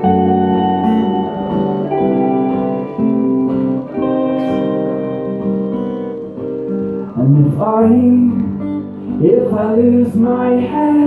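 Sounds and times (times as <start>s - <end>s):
acoustic guitar chords: 0.0s - 11.0s
electric guitar chords: 0.0s - 11.0s.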